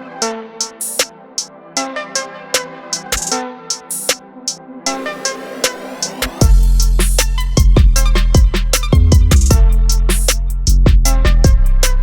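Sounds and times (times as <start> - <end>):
drum machine beat with hi-hats: 0.6 - 1.5, 2.9 - 12.0.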